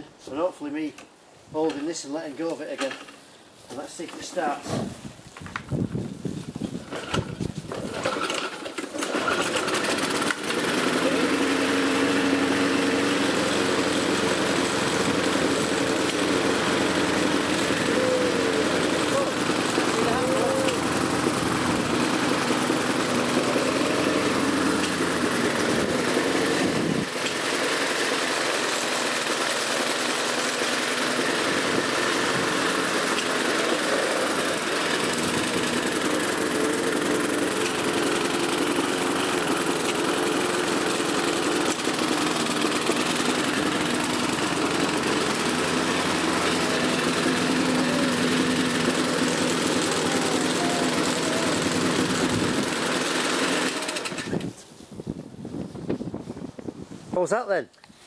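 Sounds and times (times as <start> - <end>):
lawn mower engine running: 5.2 - 54.6.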